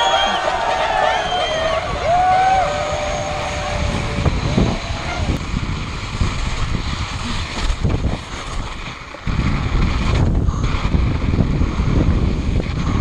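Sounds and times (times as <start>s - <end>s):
bike tyres rolling over snow: 0.0s - 13.0s
wind rushing over microphone: 0.0s - 13.0s.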